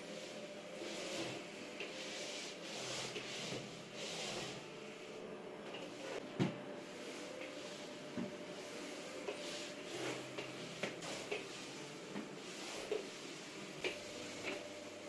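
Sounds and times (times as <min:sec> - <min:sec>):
brushing or rustling strokes: 0:00.0 - 0:05.1, 0:06.8 - 0:15.0.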